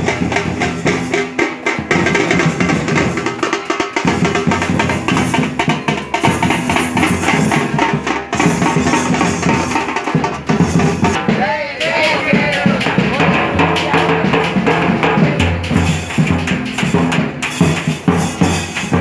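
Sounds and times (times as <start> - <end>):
dense steady drumming: 0.0 - 19.0.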